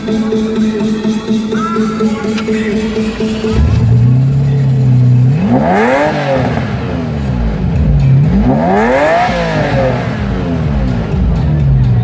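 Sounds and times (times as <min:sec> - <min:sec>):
car engine revving: 0:02.1 - 0:12.0.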